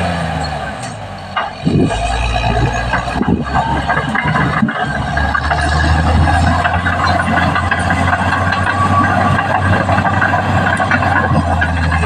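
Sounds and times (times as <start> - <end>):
bulldozer diesel engine running: 0.0 - 12.0
dense clatter: 0.7 - 12.0.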